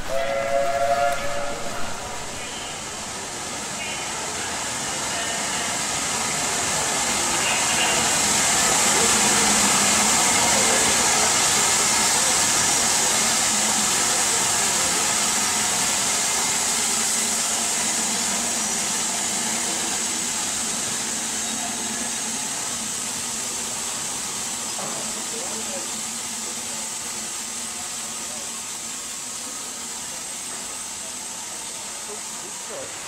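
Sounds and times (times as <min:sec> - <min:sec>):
steam train rolling: 0:00.0 - 0:33.0.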